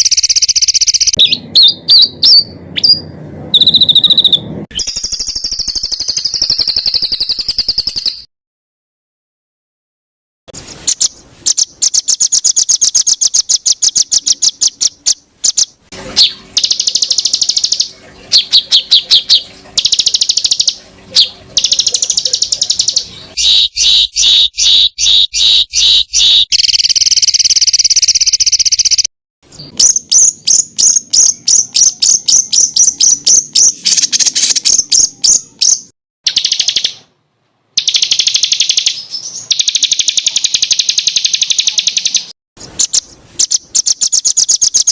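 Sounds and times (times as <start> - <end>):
songbird trills: 0.0 - 8.3, 10.8 - 37.1, 37.8 - 44.9.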